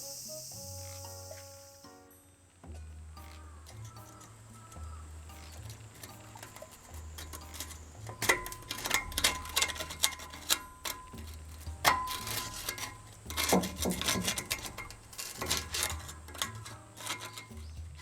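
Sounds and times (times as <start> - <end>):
faint background music: 0.0 - 18.0
hand tools clicking and knocking: 2.6 - 18.0.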